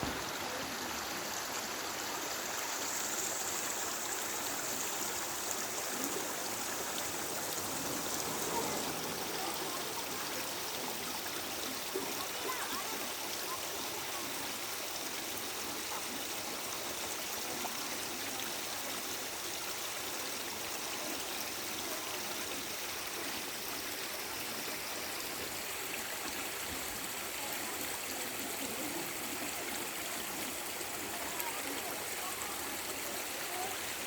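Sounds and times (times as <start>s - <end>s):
stream water running: 0.0s - 34.0s.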